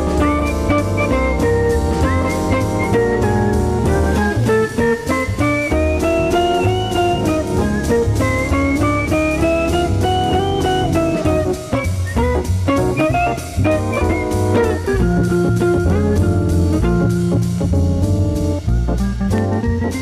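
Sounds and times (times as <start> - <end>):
bass: 0.0 - 20.0
bluesy guitar melody: 0.0 - 20.0
drum kit: 0.0 - 20.0.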